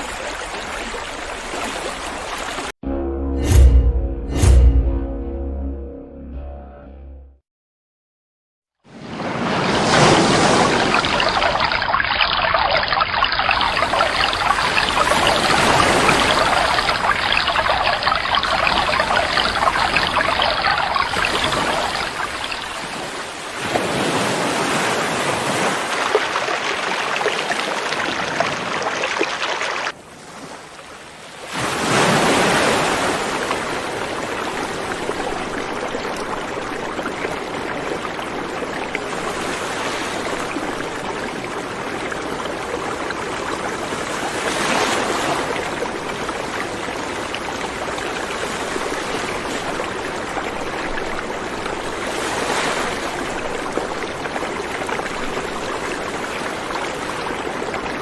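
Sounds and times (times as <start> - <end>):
river water rushing: 9.4 - 58.0.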